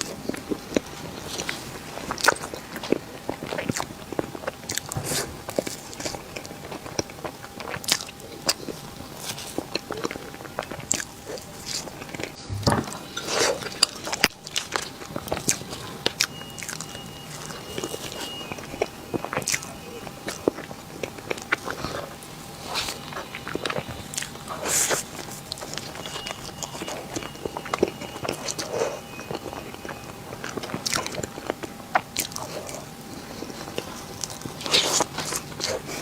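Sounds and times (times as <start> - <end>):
person chewing crunchy cake: 0.0 - 36.0.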